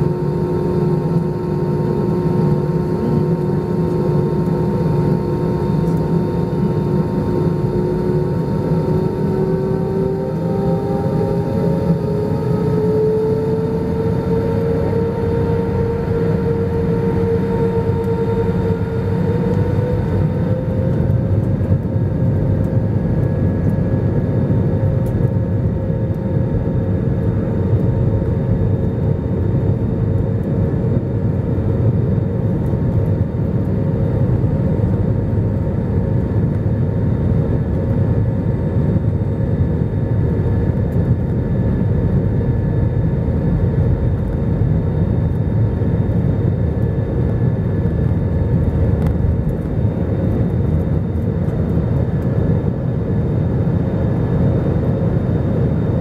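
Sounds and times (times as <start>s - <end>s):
engine rumble: 0.0s - 56.0s
jet engine whine spooling up: 0.0s - 56.0s.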